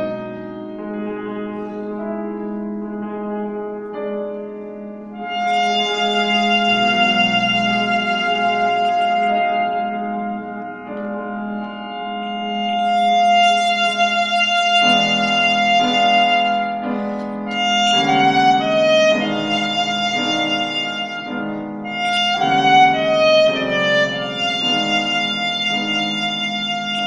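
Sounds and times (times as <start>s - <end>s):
piano chords: 0.0s - 27.0s
alto saxophone long notes: 5.1s - 27.0s.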